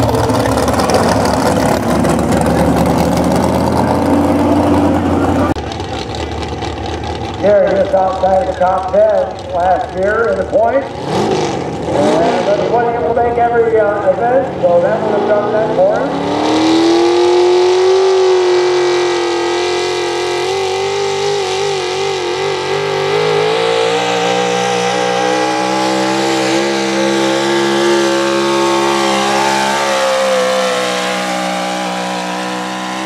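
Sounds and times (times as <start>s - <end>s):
truck engine at full throttle: 0.0s - 33.0s.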